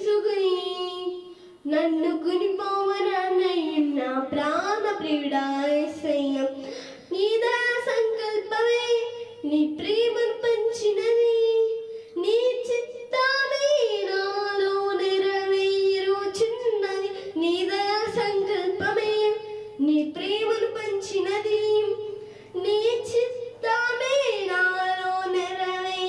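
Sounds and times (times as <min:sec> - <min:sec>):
girl singing into a microphone: 0:00.0 - 0:26.0.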